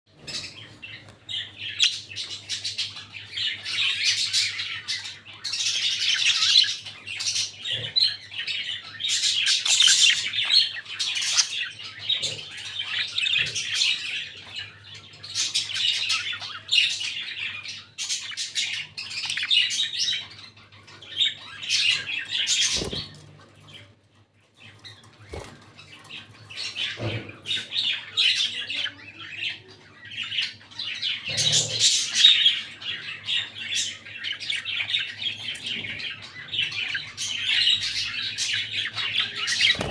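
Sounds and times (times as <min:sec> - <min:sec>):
budgerigars chattering: 0:01.4 - 0:23.2, 0:26.5 - 0:39.9.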